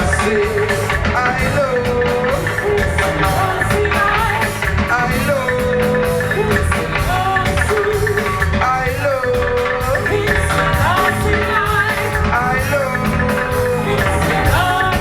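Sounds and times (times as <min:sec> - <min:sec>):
reggae band playing: 0:00.0 - 0:15.0.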